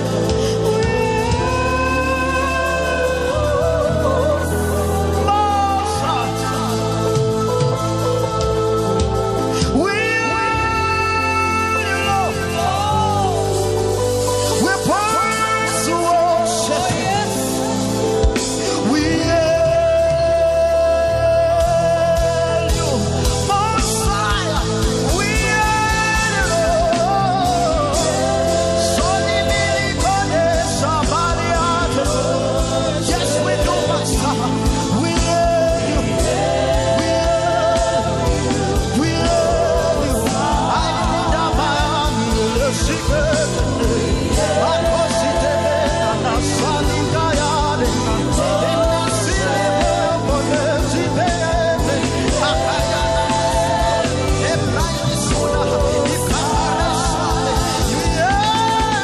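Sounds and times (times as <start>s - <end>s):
keyboard and bass chords: 0.0s - 59.0s
live band music: 0.0s - 59.0s
steady drum beat: 0.0s - 59.0s
voices singing with vibrato: 0.0s - 59.0s.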